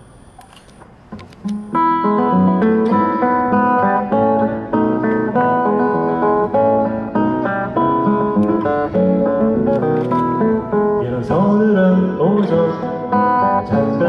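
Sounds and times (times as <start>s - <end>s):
acoustic guitar picked chords: 1.2s - 14.0s.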